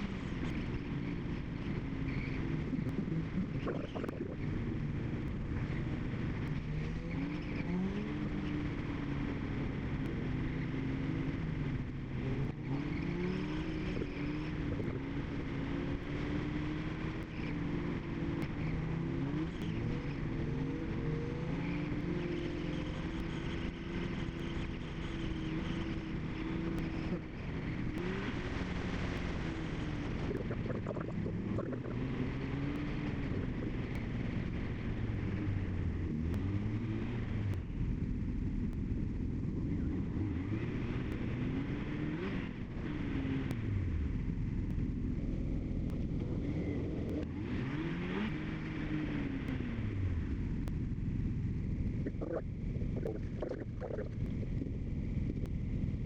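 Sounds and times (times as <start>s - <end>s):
car engines revving: 0.0s - 56.0s
tyre and road noise: 0.0s - 56.0s.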